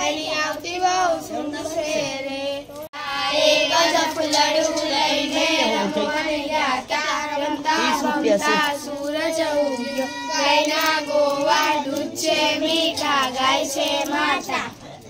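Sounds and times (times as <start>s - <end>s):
girls singing in unison: 0.0s - 14.8s.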